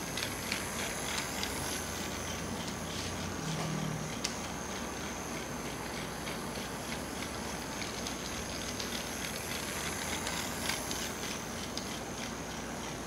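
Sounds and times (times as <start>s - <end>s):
wheels clicking on plastic track: 0.0s - 3.3s, 4.1s - 13.0s
toy train motor whine: 0.0s - 13.0s.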